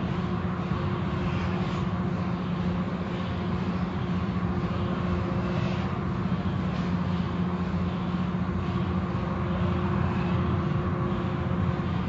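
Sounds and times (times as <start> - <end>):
car wash machinery humming: 0.0 - 12.0.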